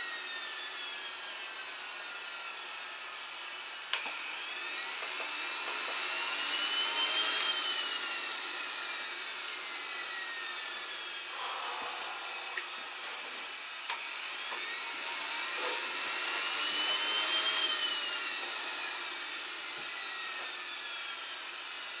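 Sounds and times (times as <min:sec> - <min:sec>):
jet turbine whine: 0:02.0 - 0:22.0.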